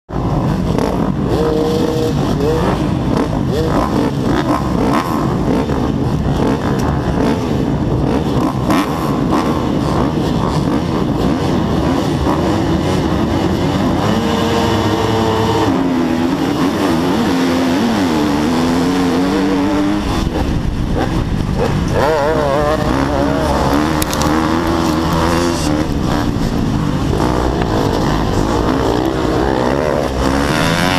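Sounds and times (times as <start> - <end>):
motocross engine revving: 0.1 - 30.9
other motocross bikes running: 0.1 - 30.9.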